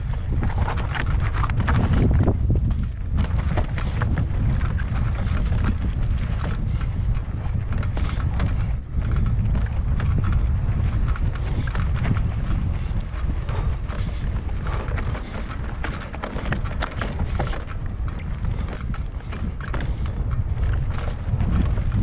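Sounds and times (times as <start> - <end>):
bike rattling over rocks: 0.0 - 22.0
wind buffeting microphone: 0.0 - 22.0.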